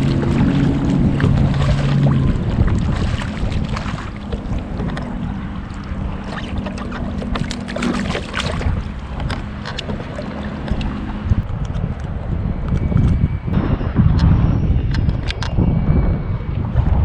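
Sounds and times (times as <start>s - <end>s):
low hum: 0.0s - 17.0s
wind buffeting microphone: 0.0s - 17.0s.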